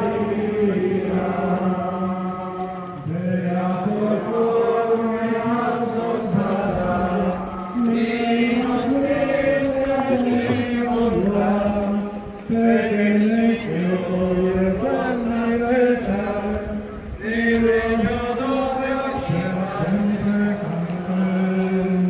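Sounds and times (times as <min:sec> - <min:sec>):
group chanting in unison: 0:00.0 - 0:21.4.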